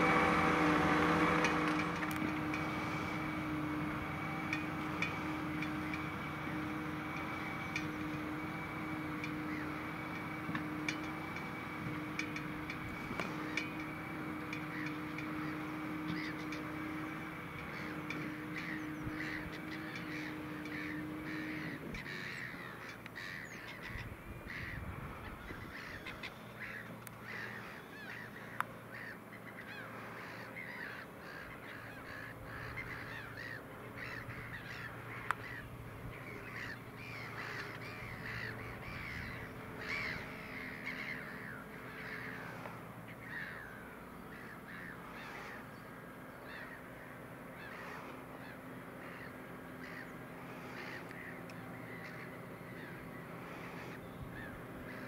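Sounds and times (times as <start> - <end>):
birds cawing: 0.0 - 55.0
tractor engine running: 0.0 - 55.0.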